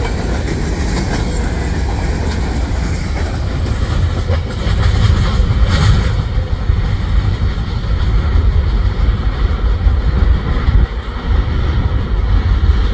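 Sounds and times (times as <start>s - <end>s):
train wheels rattling on rails: 0.0s - 12.9s
loud uneven low rumble: 1.2s - 12.9s.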